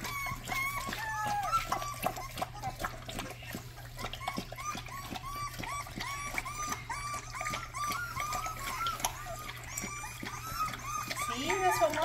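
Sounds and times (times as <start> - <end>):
dog lapping water: 0.0 - 12.0.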